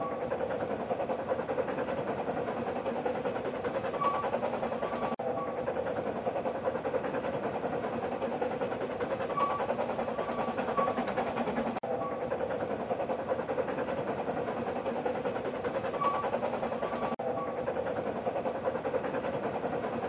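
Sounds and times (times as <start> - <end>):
steam locomotive exhaust: 0.0 - 20.0
train wheels on rails: 0.0 - 20.0.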